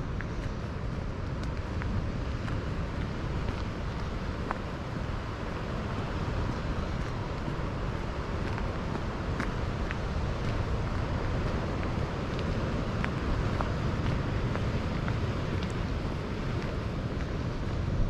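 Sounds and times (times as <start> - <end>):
wind rumbling over microphone: 0.0 - 18.0.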